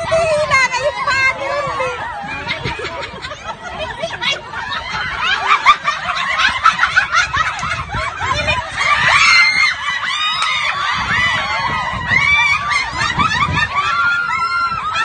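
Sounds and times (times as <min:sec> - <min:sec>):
group of people laughing: 0:00.0 - 0:15.0.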